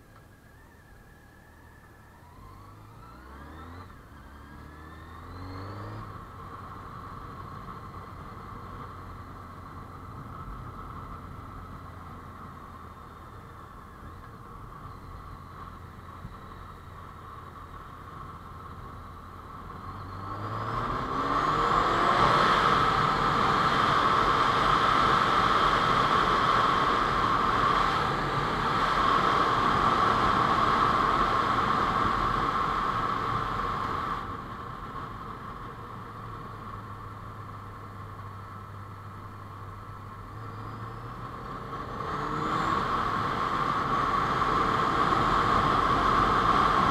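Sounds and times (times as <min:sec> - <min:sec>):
motorcycle engine accelerating: 0:01.5 - 0:46.9.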